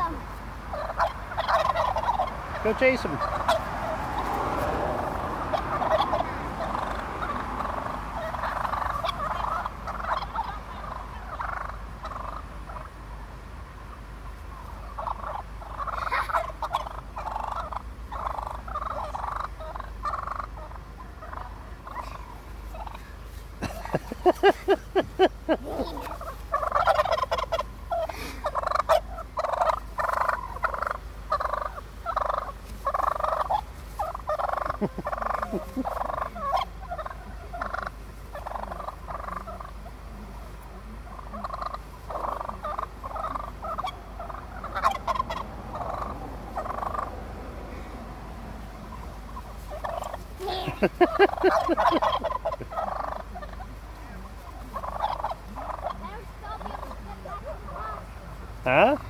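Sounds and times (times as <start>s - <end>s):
wild turkeys calling: 0.0s - 59.0s.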